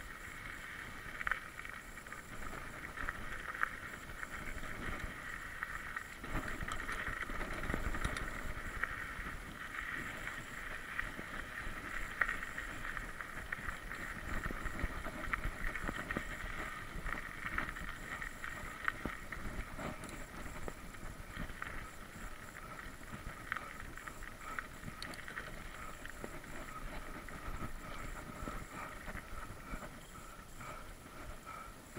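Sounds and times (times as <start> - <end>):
wind rumbling on microphone: 0.0 - 31.9
bike rattling over ground: 0.1 - 30.8.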